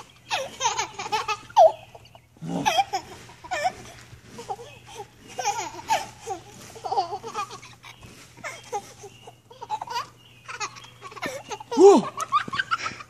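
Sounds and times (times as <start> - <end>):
toddler laughing and squealing: 0.3 - 13.0.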